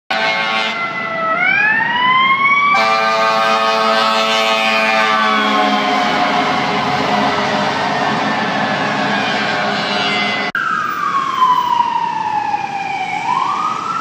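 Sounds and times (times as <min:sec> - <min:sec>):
wailing siren: 0:00.1 - 0:14.0
steady siren tone: 0:00.5 - 0:14.0.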